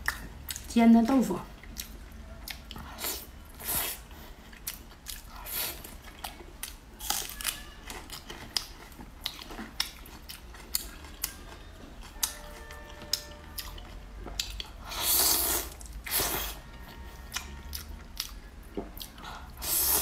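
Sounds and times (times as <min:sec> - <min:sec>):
chewing tofu: 0:00.0 - 0:00.8, 0:01.4 - 0:20.0.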